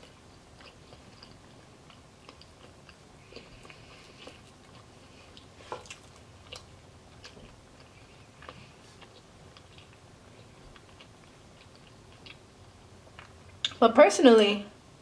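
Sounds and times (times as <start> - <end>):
chewing with mouth closed: 0.0 - 13.8.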